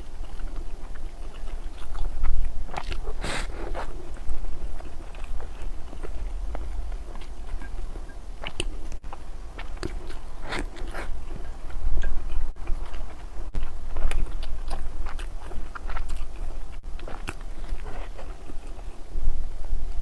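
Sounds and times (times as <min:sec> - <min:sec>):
chewing food with crunches: 0:00.0 - 0:19.4.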